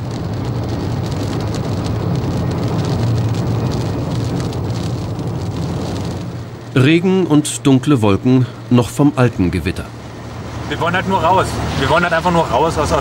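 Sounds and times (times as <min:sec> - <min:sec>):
rain hitting car windscreen: 0:00.0 - 0:13.0
tyres and engine drone: 0:00.0 - 0:13.0.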